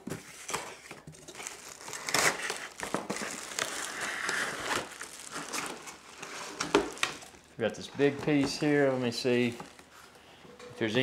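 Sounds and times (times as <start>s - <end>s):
packaging rustling and crinkling: 0.0s - 10.2s.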